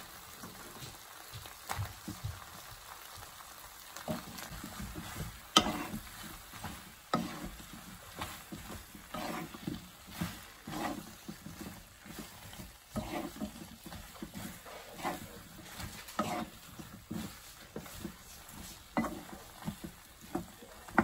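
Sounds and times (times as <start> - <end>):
spatula scraping a pan: 3.9 - 21.0.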